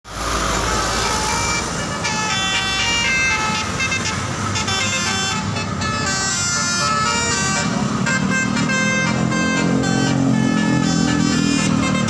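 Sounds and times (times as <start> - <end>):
engine and road noise: 0.0 - 12.0
multi-tone vehicle horn tune: 0.8 - 12.0.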